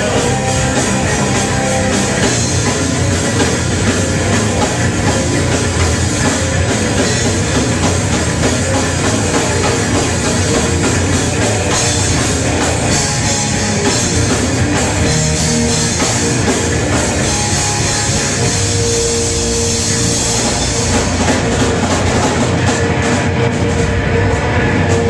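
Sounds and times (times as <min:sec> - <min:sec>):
distorted electric guitars: 0:00.0 - 0:25.0
pounding drum kit: 0:00.0 - 0:25.0.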